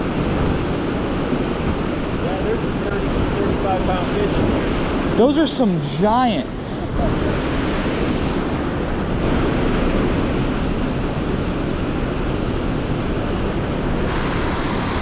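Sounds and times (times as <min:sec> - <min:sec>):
wind rumbling on microphone: 0:00.0 - 0:05.8, 0:06.4 - 0:15.0
fast-flowing river water: 0:00.0 - 0:15.0.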